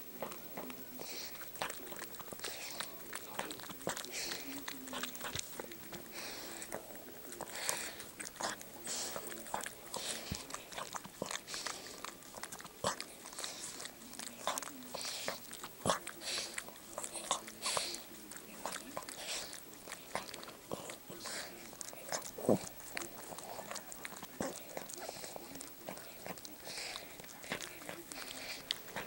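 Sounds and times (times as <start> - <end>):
dog licking wet slurps: 0.0 - 29.0.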